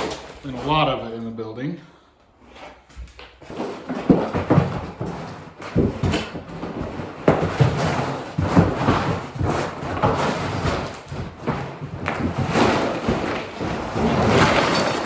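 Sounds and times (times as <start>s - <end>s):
debris knocks and thumps: 0.0s - 1.4s, 3.0s - 15.0s
scraping and rustling: 0.0s - 1.4s, 2.4s - 15.0s.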